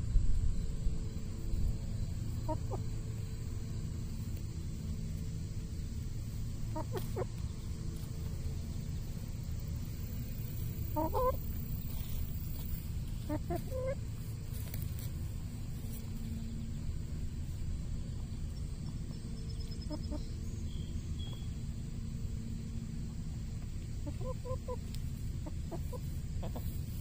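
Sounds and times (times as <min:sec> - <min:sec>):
steady low rumble: 0:00.0 - 0:27.0
chickens clucking: 0:01.4 - 0:22.4, 0:23.0 - 0:27.0.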